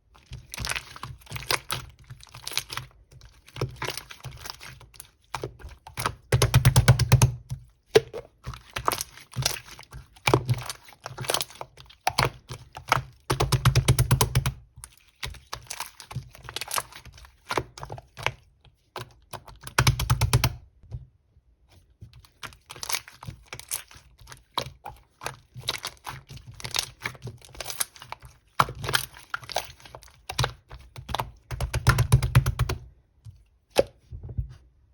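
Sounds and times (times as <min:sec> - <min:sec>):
slime squishing: 0:00.0 - 0:20.8, 0:21.6 - 0:34.7.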